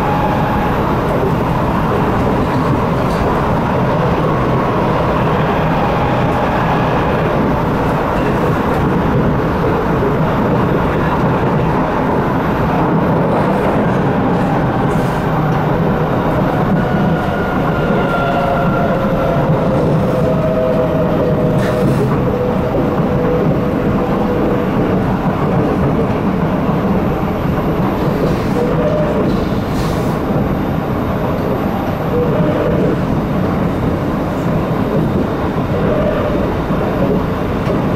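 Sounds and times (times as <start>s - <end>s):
train wheels rumbling: 0.0s - 37.9s.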